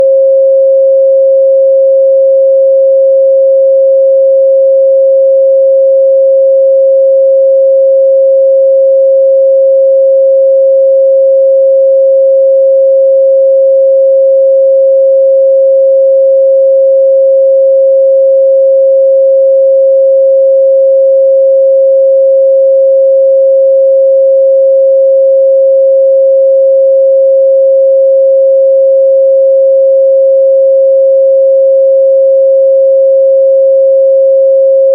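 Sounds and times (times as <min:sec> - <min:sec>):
sine-wave test tone: 0:00.0 - 0:34.9.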